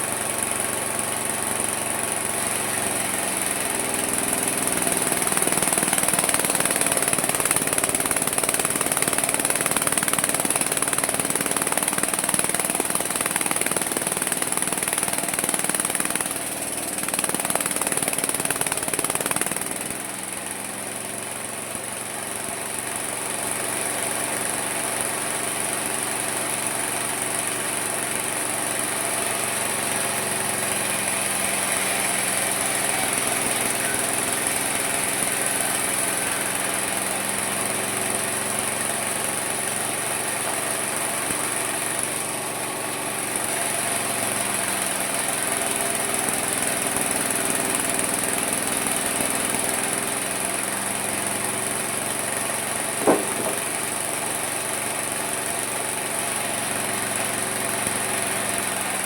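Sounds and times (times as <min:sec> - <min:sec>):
sawmill cutting wood: 0:00.0 - 0:59.0.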